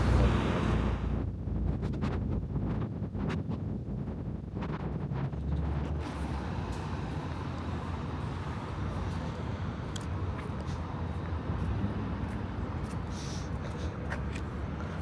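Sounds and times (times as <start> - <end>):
city ambience rumble: 0.0 - 15.0.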